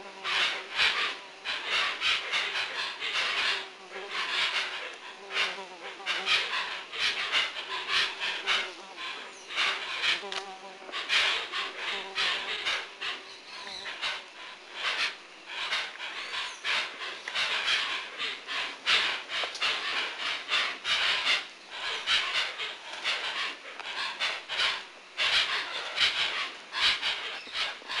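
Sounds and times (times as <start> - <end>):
birds hoarse hissing calls: 0.0 - 28.0.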